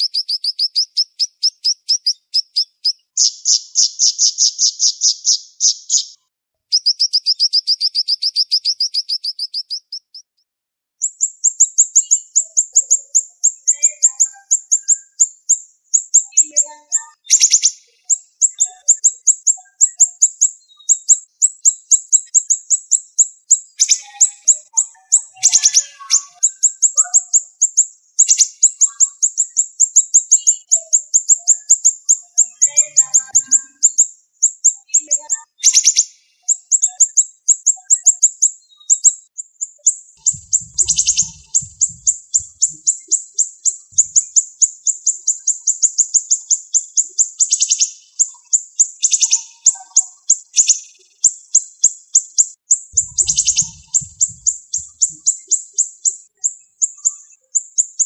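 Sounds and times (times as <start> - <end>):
bird singing fast trills: 0.0 - 10.3, 11.0 - 58.0.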